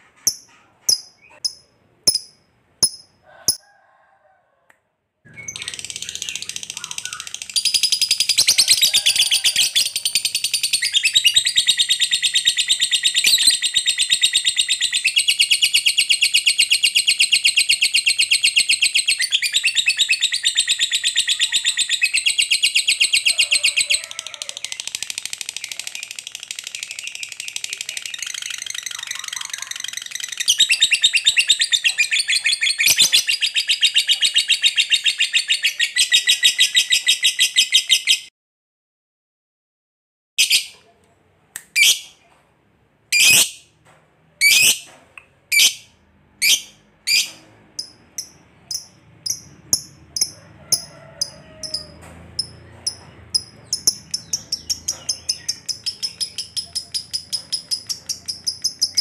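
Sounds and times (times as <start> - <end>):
lovebird chattering trill: 0.3 - 3.6, 5.4 - 23.3, 24.9 - 38.2, 43.2 - 43.6, 46.4 - 59.0.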